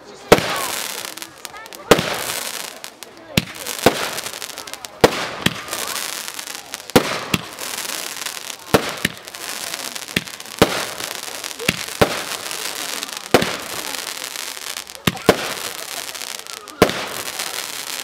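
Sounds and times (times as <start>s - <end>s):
crackling hiss of bursting stars: 0.0s - 18.0s
firework bangs: 0.2s - 18.0s.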